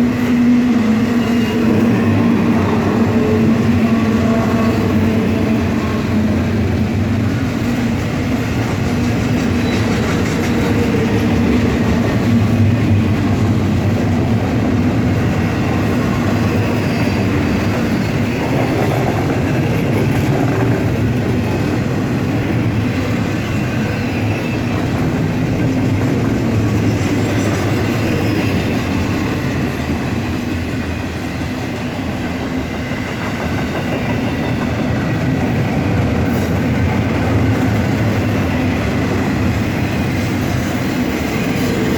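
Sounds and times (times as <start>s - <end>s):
freight train cars rolling: 0.0s - 41.9s
train wheel clatter: 0.0s - 41.9s.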